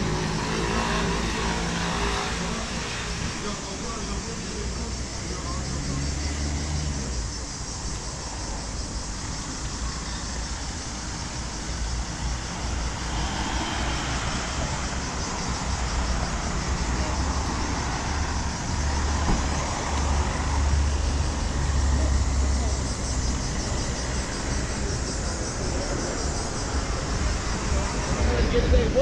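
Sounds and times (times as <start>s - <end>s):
cars passing: 0.0s - 29.0s
low traffic rumble: 0.0s - 29.0s.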